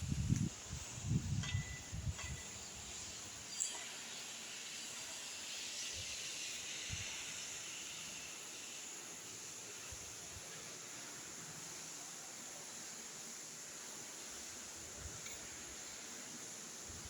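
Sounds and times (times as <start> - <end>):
machinery hissing: 0.0 - 17.0.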